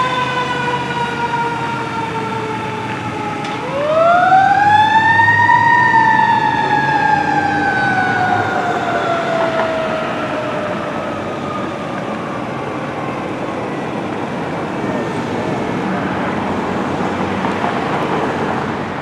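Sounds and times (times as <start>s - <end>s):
fire truck siren: 0.0s - 19.0s
vehicle engine and road noise: 0.0s - 19.0s.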